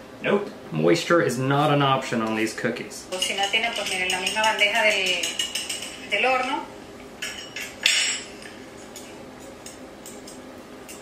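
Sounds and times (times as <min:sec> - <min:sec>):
low room noise: 0:00.0 - 0:11.0.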